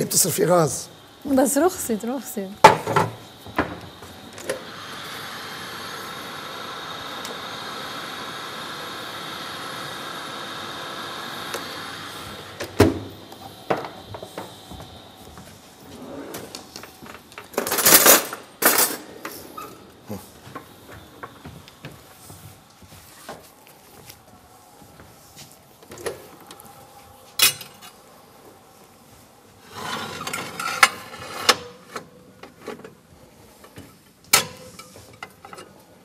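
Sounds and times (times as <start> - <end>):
oven humming: 0.0 - 36.0.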